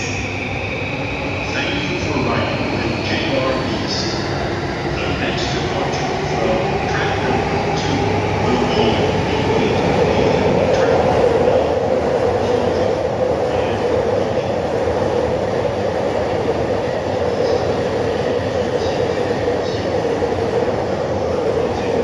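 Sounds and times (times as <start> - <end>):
electric train rumbling on rails: 0.0 - 22.0.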